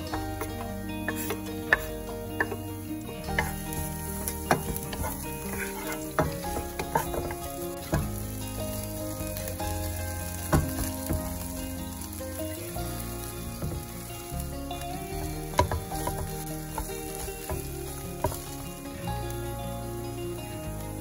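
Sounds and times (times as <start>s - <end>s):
garlic sizzling in oil: 0.0s - 21.0s.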